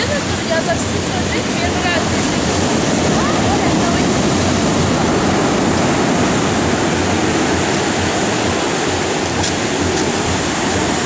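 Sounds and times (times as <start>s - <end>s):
surf breaking: 0.0s - 11.0s.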